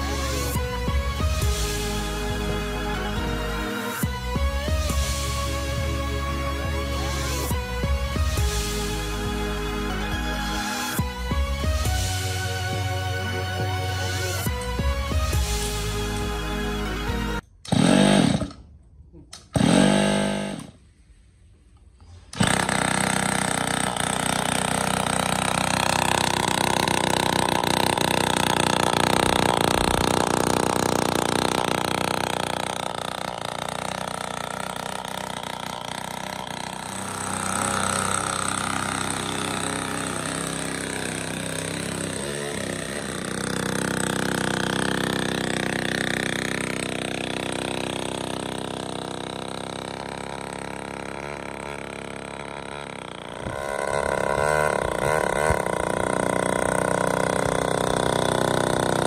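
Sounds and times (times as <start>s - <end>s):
two-stroke motorbike engine running: 0.0s - 18.6s, 19.5s - 20.8s, 22.2s - 59.0s.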